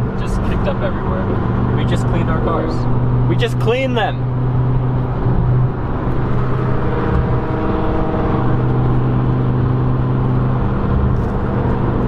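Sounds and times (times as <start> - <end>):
car engine cruising: 0.0 - 12.0
tyre and road noise: 0.0 - 12.0.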